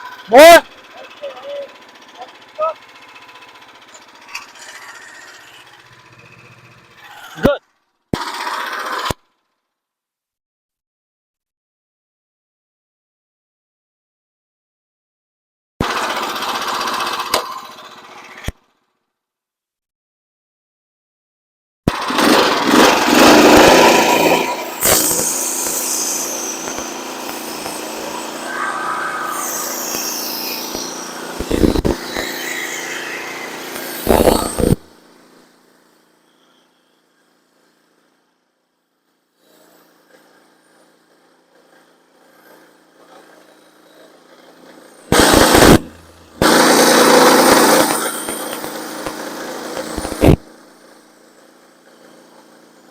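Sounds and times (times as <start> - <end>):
small gas engine running: 0.0 - 7.6, 8.2 - 9.3, 15.8 - 18.7, 21.9 - 52.9.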